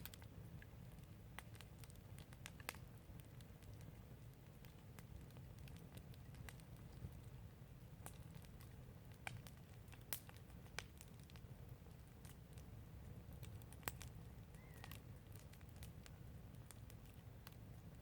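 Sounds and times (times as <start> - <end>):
low steady rumble: 0.0 - 18.0
wood fire crackling: 0.0 - 18.0.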